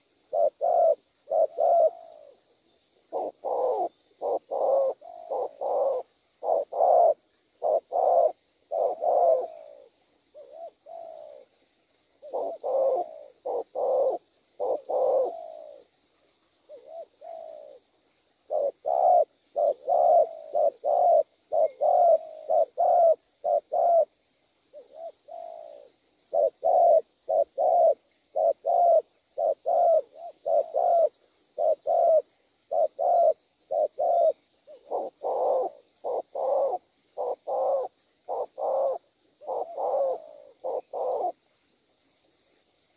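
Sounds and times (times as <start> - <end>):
dove cooing: 0.0 - 41.5.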